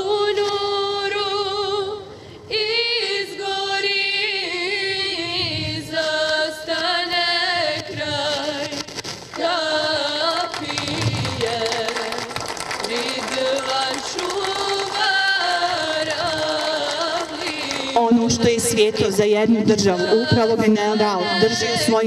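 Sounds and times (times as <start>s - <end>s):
high voice singing with vibrato: 0.0s - 22.0s.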